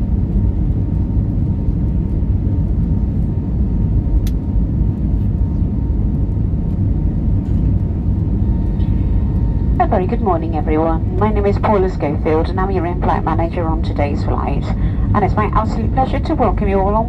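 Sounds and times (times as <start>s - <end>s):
faint steady whine: 0.0s - 17.0s
jet engine rumble in cabin: 0.0s - 17.0s.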